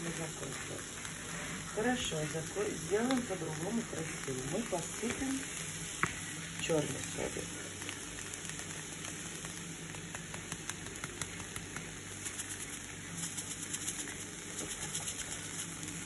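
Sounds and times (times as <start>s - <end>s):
omelette sizzling in a pan: 0.0s - 16.0s.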